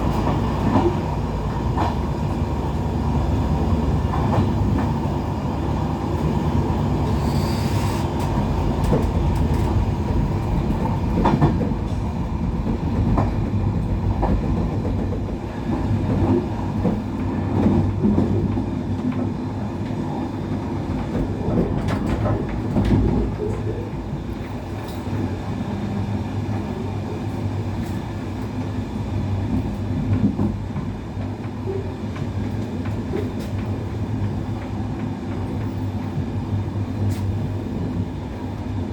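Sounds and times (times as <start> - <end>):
train rumble from inside: 0.0 - 38.9.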